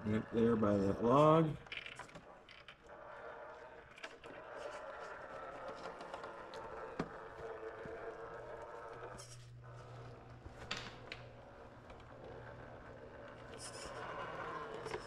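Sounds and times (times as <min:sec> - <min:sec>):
rc car motor whining: 0:00.0 - 0:10.4, 0:11.2 - 0:15.0.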